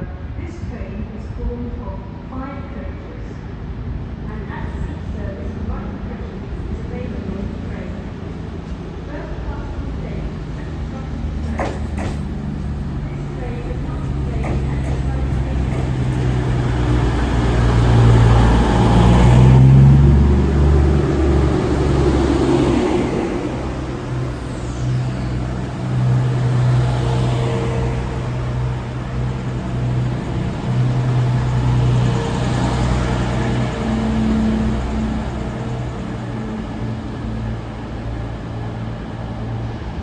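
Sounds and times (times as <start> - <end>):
diesel train engine humming: 4.5 - 40.0.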